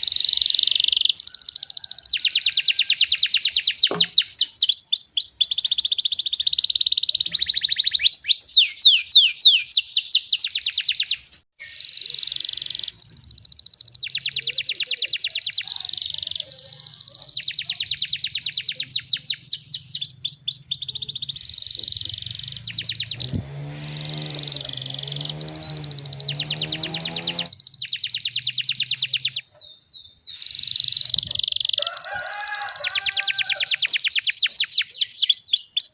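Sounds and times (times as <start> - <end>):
canary singing trills: 0.0 - 35.9.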